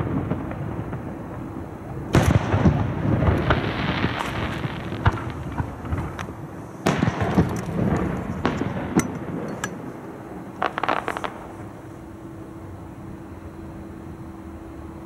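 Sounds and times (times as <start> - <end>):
fireworks crackling pops: 0.0 - 12.7
fireworks booming: 0.0 - 14.6.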